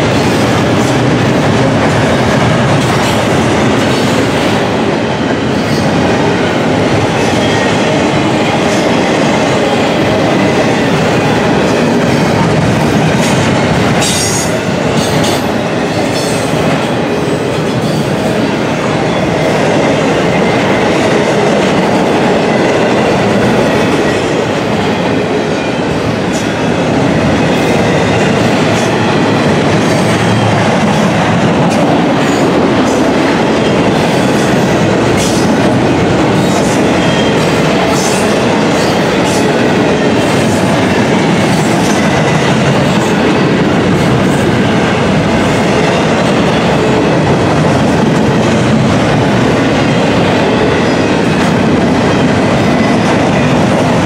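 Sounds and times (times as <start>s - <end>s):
steel wheels rolling on rail: 0.0s - 54.0s.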